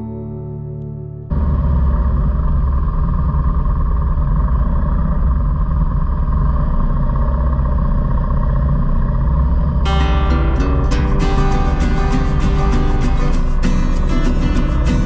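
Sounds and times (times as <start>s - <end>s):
vehicle engine: 1.2s - 15.0s.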